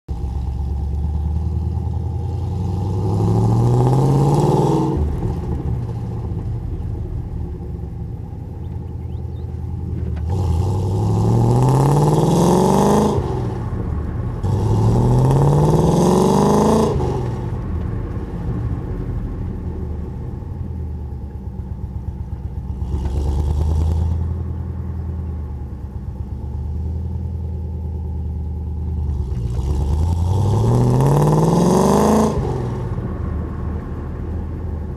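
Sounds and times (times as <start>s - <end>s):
car exhaust revving: 0.1s - 34.9s.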